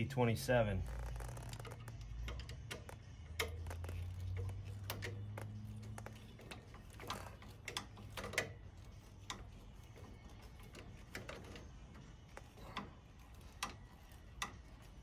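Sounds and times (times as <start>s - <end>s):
hand ratchet clicking: 0.8s - 15.0s.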